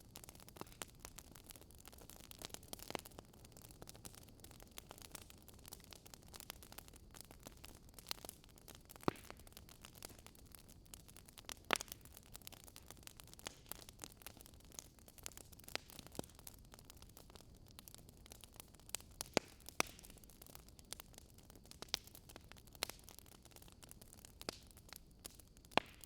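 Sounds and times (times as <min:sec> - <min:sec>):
campfire crackling: 0:00.0 - 0:26.0
fire pops: 0:00.0 - 0:26.0.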